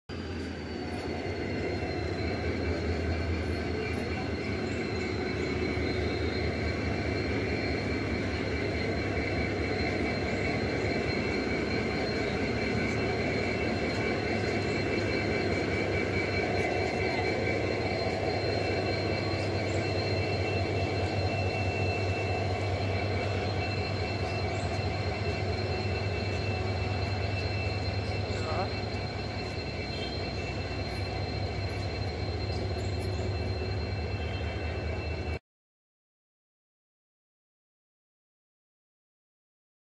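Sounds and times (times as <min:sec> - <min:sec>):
locomotive engine rumble: 0:00.1 - 0:35.4
high whine: 0:00.2 - 0:35.4.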